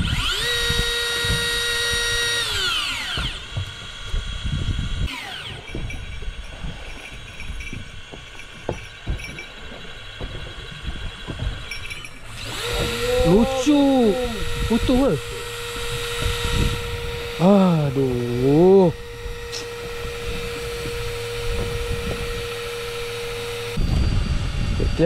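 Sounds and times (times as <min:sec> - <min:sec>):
small electric motor whining: 0:00.0 - 0:25.0
low knocks and thumps: 0:01.2 - 0:05.1, 0:05.7 - 0:13.1, 0:13.8 - 0:17.4, 0:19.0 - 0:24.8.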